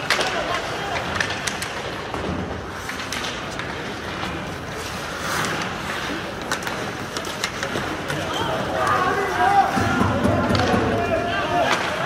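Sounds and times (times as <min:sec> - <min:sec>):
skates scraping on ice: 0:00.0 - 0:12.0.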